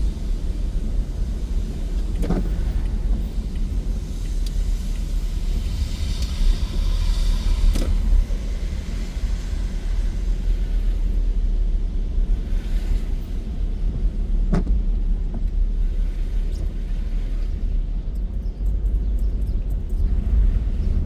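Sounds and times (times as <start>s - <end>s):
car driving on wet road: 0.0s - 21.0s.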